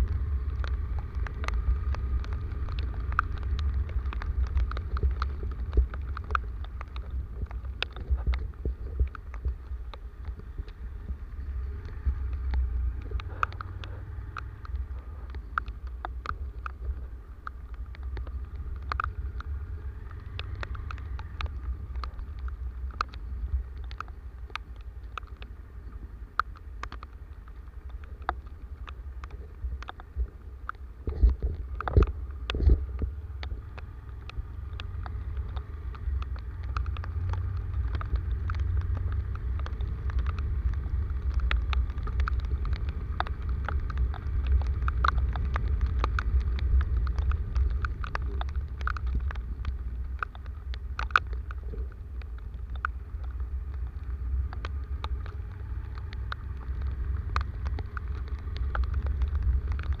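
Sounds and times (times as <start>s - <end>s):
low rumble: 0.0s - 60.0s
rain noise: 0.0s - 60.0s
sharp ticks: 0.0s - 60.0s.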